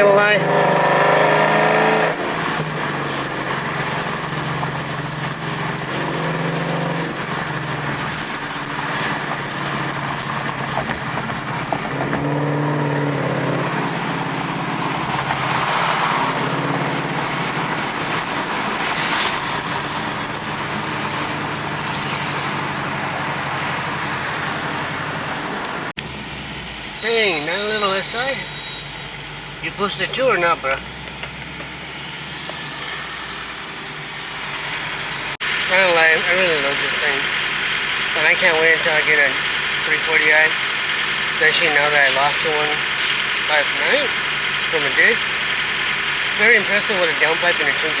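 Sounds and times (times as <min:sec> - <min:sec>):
car engine exhaust rumble: 0:00.4 - 0:48.0.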